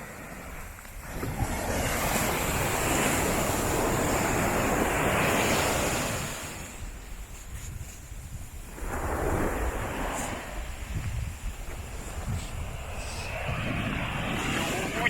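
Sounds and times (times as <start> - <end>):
wave washing up beach: 0.0 - 15.0
wind buffeting microphone: 0.0 - 15.0.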